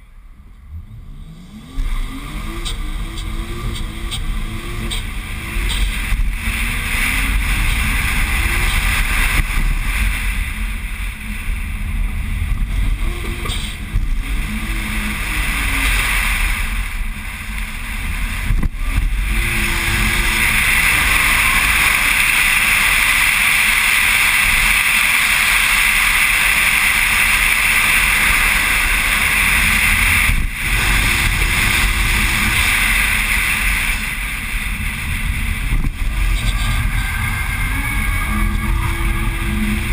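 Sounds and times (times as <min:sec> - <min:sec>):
low engine rumble: 0:00.0 - 0:39.9
wind rushing over camera: 0:00.5 - 0:39.9.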